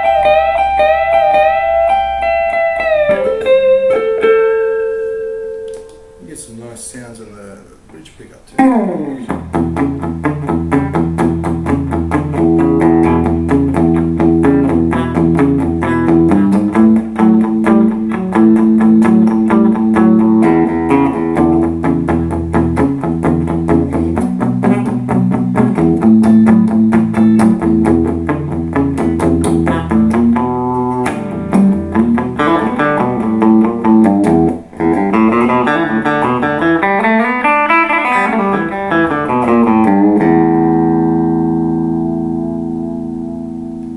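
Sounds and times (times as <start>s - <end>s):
clean electric guitar playing: 0.0s - 6.8s, 8.6s - 43.9s.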